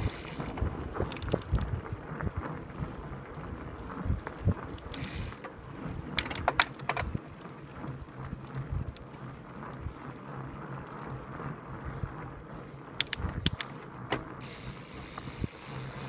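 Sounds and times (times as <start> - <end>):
bike drivetrain rattling and clicking: 0.0 - 16.0.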